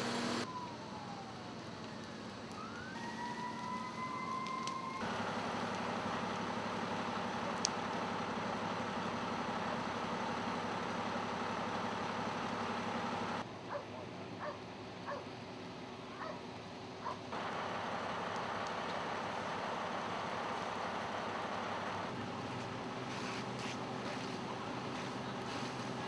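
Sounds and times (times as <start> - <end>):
fire engine idling: 0.0 - 26.0.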